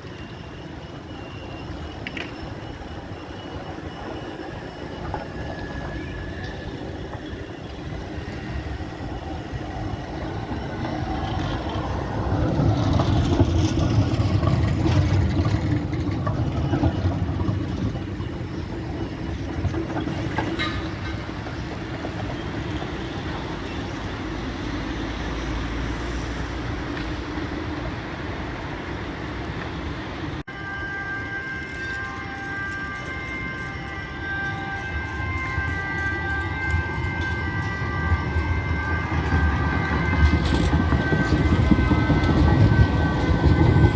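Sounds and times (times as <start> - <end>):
tram rumbling on rails: 0.0 - 43.9.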